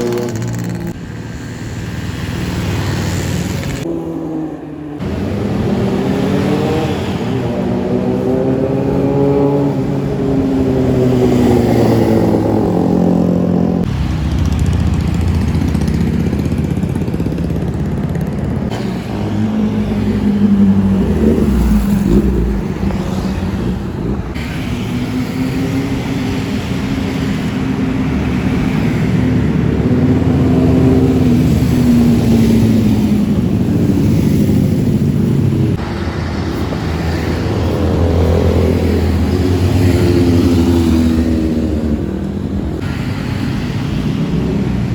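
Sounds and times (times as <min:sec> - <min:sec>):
car engines revving past: 0:00.0 - 0:44.9.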